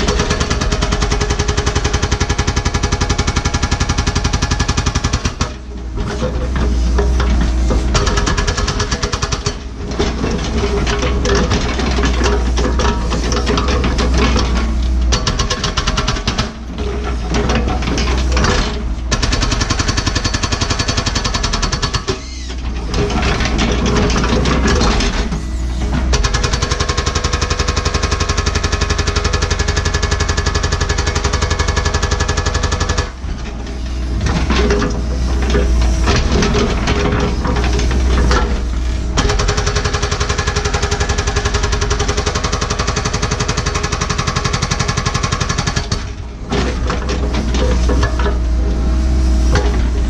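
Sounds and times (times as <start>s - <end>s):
hydraulic rock hammer pounding rock: 0.0s - 48.5s
excavator engine running: 0.0s - 50.0s.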